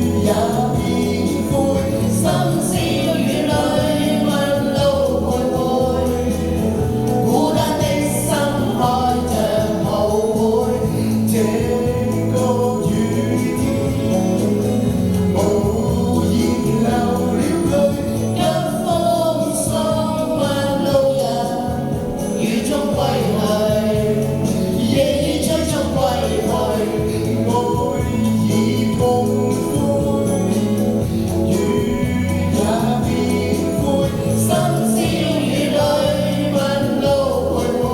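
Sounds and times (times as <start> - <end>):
recorded backing track: 0.0 - 37.9
voices singing pop ballad: 0.0 - 37.9.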